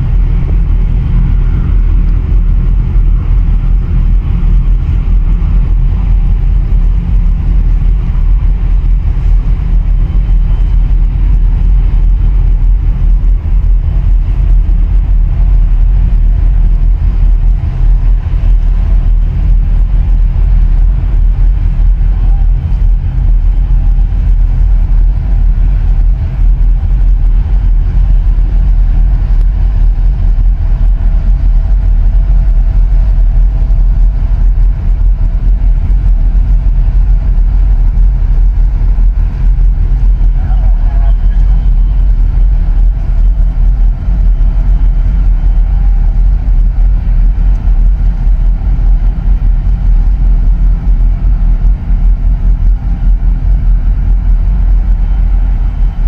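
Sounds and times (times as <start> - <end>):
boat engine rumbling: 0.0 - 56.0
wind and water hiss: 0.0 - 56.0.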